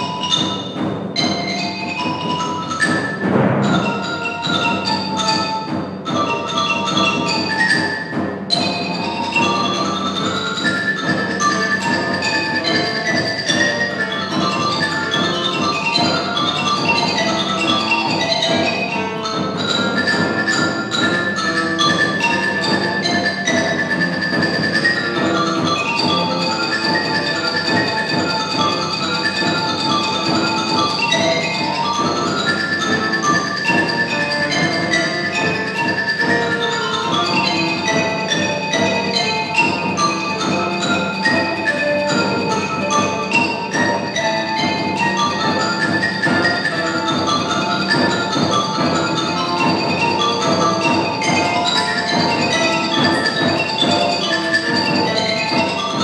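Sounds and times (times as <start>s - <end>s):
grand piano: 0.0s - 56.0s
marimba played with mallets: 0.0s - 56.0s.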